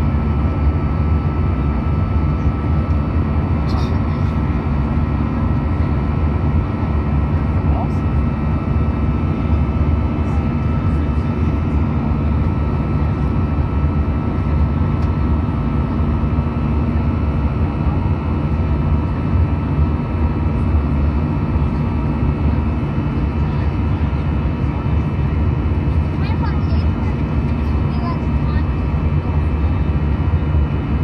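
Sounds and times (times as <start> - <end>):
jet cabin roar: 0.0 - 31.0.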